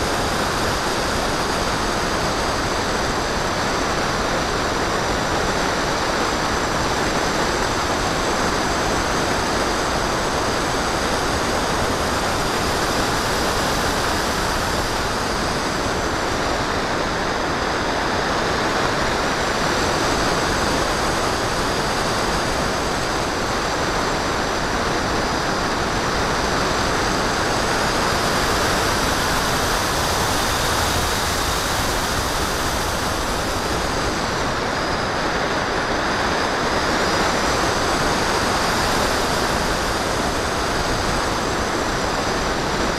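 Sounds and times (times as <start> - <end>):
electric motor and propeller whine: 0.0 - 42.9.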